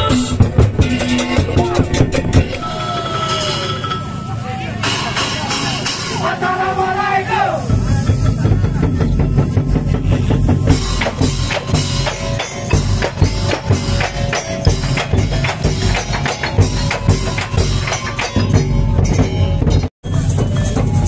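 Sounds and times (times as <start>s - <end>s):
drums playing fast beat: 0.0s - 21.0s
held melodic tone: 0.0s - 21.0s
jingling percussion: 0.0s - 21.0s.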